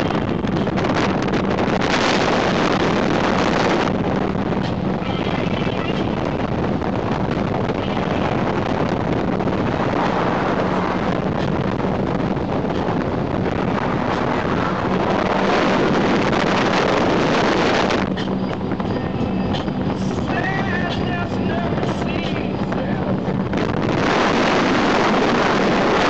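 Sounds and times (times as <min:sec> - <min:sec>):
motorboat engine drone: 0:00.0 - 0:26.0
water rushing from wake: 0:00.0 - 0:26.0
wind buffeting microphone: 0:00.0 - 0:26.0.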